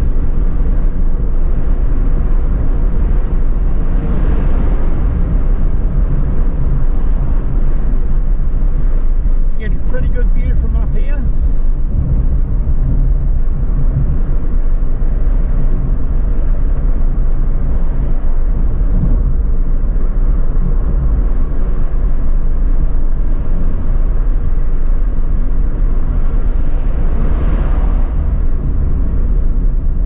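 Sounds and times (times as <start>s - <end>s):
car engine and tyres rumble: 0.0s - 30.0s.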